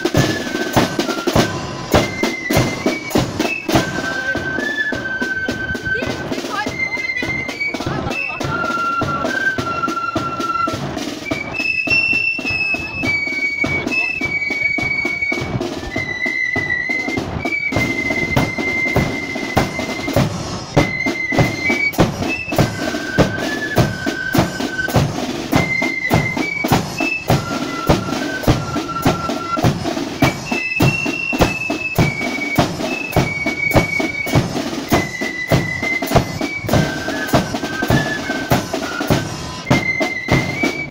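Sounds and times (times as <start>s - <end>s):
bass drum march beat: 0.0s - 40.9s
flute melody: 0.0s - 40.9s
side drums: 0.0s - 40.9s.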